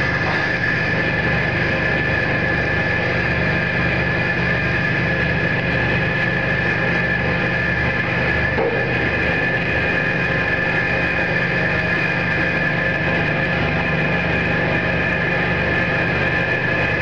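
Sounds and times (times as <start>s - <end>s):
mixer motor hum and whine: 0.0s - 17.0s.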